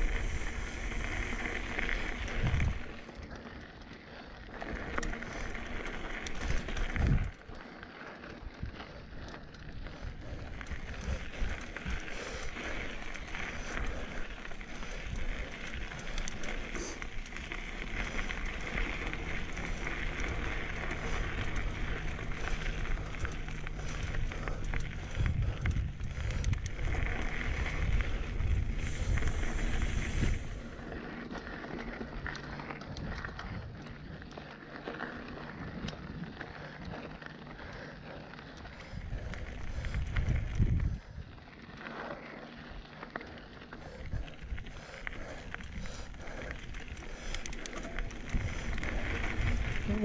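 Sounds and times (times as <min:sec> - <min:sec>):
wind buffeting microphone: 0:00.0 - 0:03.1, 0:04.5 - 0:07.6, 0:08.4 - 0:31.6, 0:32.2 - 0:41.5, 0:43.8 - 0:50.0
bike tyres crunching over gravel: 0:00.0 - 0:50.0.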